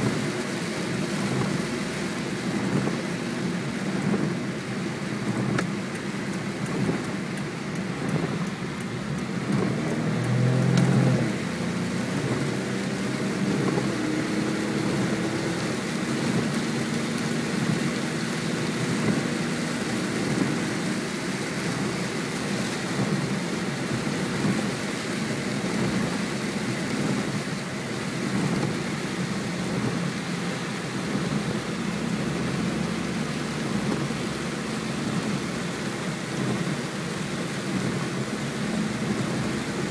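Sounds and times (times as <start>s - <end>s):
car engine running: 0.0s - 39.9s
rain hitting a car: 0.0s - 39.9s
tyres hissing on wet road: 0.0s - 39.9s.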